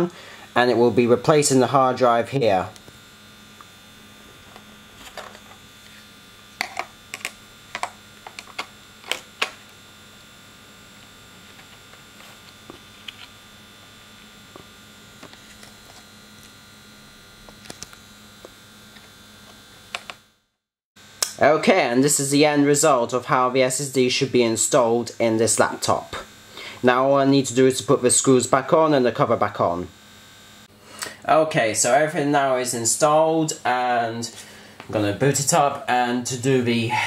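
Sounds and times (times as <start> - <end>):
steady hum: 0.0 - 20.4, 21.0 - 37.0.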